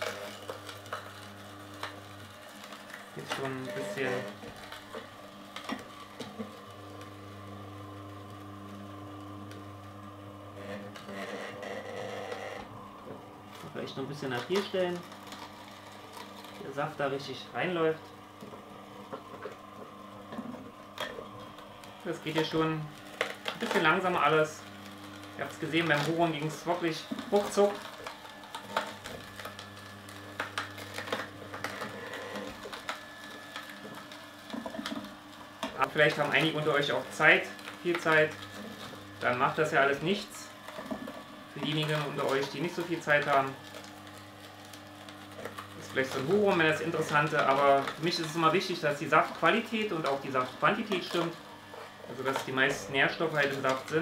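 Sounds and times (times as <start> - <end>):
juicer crushing carrots: 0.0 - 54.0
juicer motor humming: 0.0 - 54.0.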